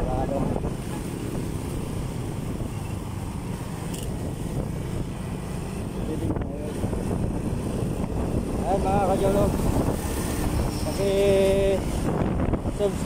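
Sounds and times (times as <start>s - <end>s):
motorcycle engine rumble: 0.0s - 13.0s
road noise: 0.0s - 13.0s
wind noise: 0.0s - 13.0s.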